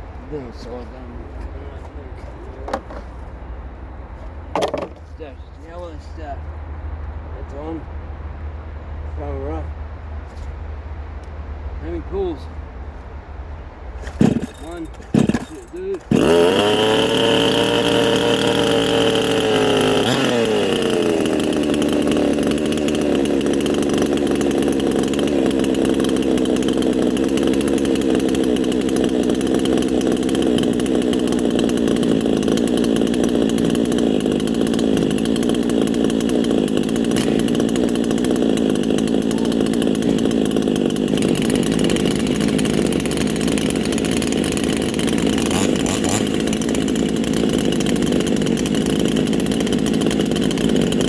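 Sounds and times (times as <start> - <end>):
chainsaw engine idling: 0.0 - 6.6, 14.0 - 51.0.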